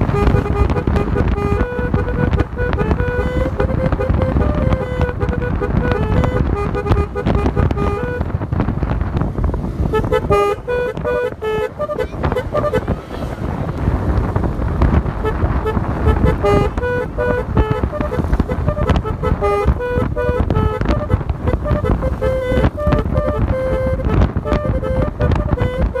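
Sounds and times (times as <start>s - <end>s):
multi-tone air horn melody: 0.0s - 26.0s
steady low rumble: 0.0s - 26.0s.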